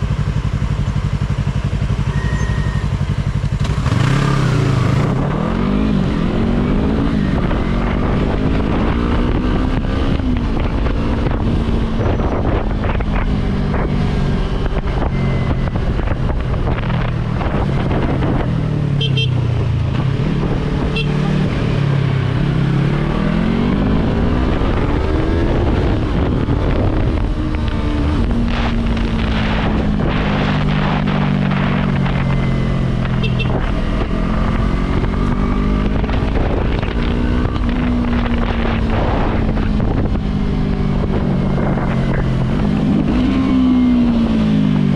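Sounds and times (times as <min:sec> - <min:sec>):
motorcycle engine accelerating: 0:00.0 - 0:44.9
wind on microphone: 0:04.1 - 0:44.9.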